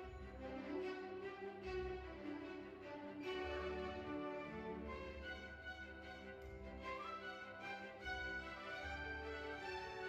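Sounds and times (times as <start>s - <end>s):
music of long held notes: 0.0s - 10.0s.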